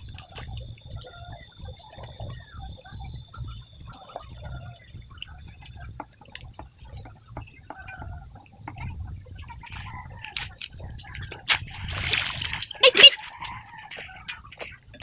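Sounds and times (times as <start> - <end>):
small splashes and clicks: 0.0 - 2.4, 3.3 - 15.0
water dripping and trickling: 0.0 - 15.0.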